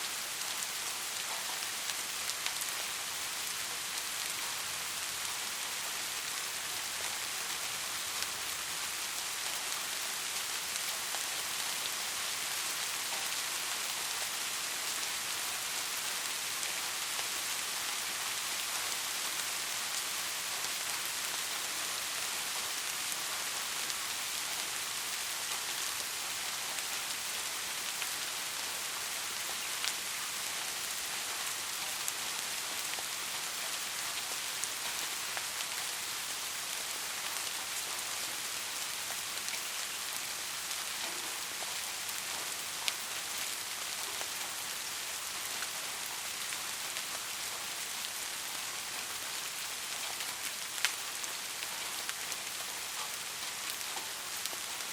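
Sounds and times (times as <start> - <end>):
rain falling on a surface: 0.0 - 54.9.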